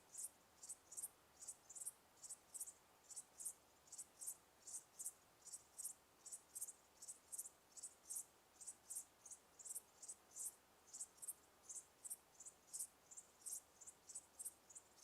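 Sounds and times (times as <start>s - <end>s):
cricket chirping: 0.0s - 15.0s
faint hiss: 0.0s - 15.0s.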